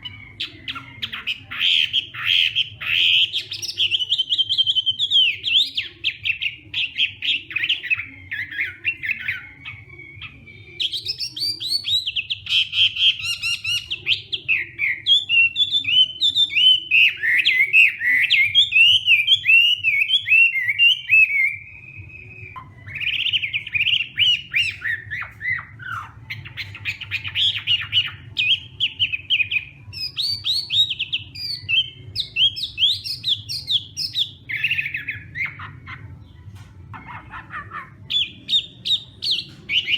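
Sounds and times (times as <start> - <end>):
bird singing whistles and trills: 0.0 - 39.9
faint low hum: 0.0 - 39.9.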